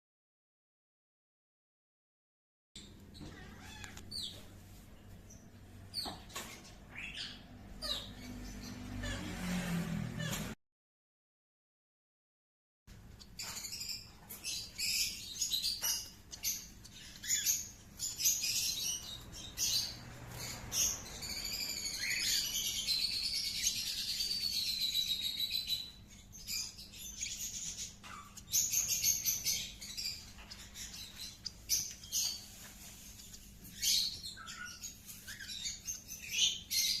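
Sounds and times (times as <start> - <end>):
parrots chirping and chattering: 2.8 - 10.6, 12.9 - 37.0.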